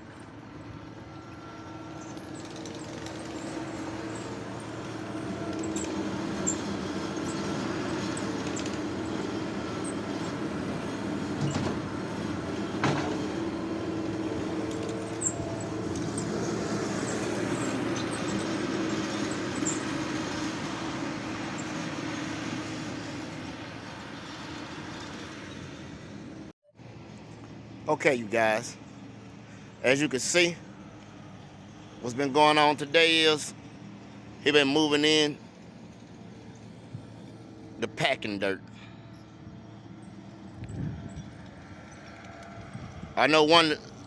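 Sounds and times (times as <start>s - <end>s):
skid steer loader running: 0.0s - 26.5s, 32.6s - 44.0s.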